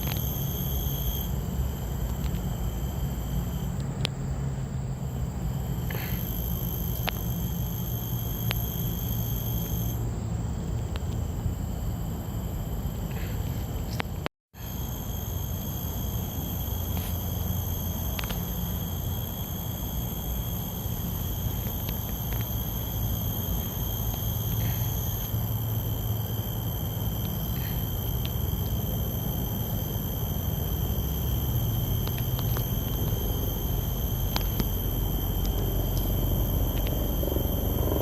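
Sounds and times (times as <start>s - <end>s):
insects droning high-pitched: 0.0s - 38.0s.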